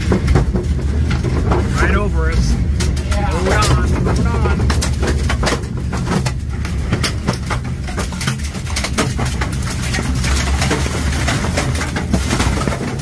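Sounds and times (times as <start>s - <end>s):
strong wind buffeting a vehicle: 0.0s - 13.0s.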